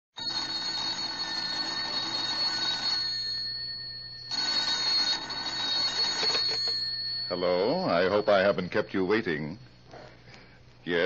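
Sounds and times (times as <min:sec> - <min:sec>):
telephone bell ringing: 0:00.2 - 0:09.3.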